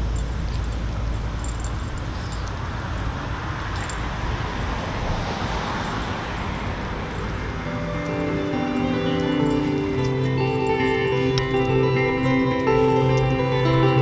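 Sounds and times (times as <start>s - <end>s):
car passing: 0.0s - 14.0s
street traffic rumble: 0.0s - 14.0s.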